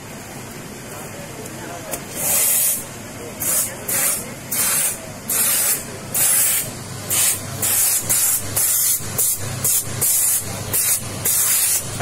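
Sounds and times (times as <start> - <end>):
steam nozzle hissing in bursts: 2.1 - 12.0.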